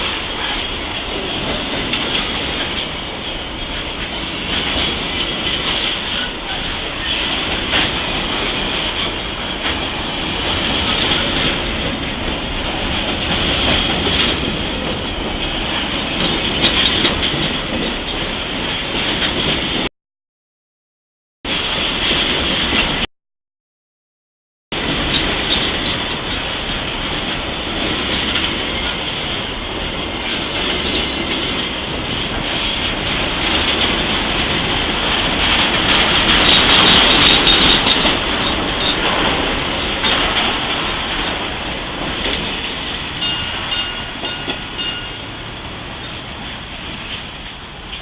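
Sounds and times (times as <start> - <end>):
freight train wheels clicking: 0.0 - 19.9, 24.8 - 48.0.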